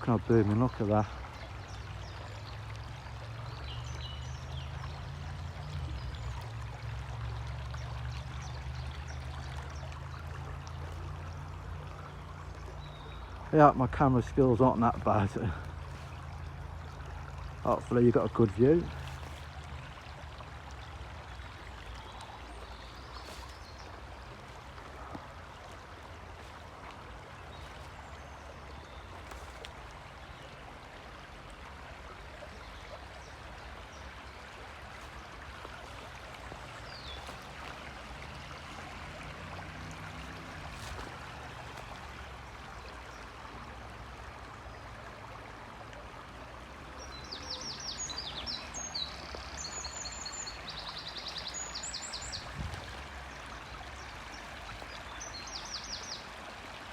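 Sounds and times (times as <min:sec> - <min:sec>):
small stream flowing: 0:00.0 - 0:56.9.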